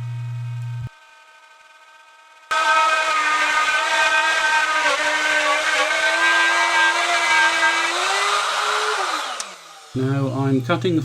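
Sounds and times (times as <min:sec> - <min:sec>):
electric router whining: 0:00.0 - 0:11.0.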